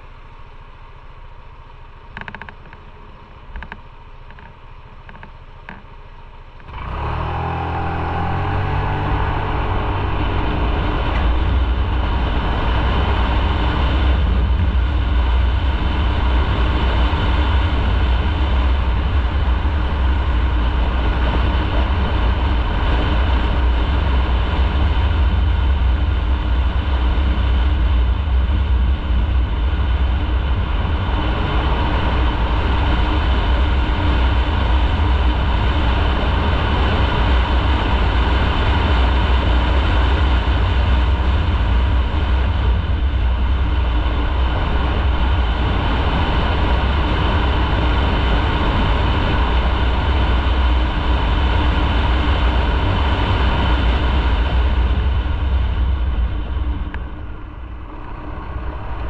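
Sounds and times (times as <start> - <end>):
motorcycle engine running: 0.0 - 59.0
wind rumble on microphone: 6.7 - 59.0.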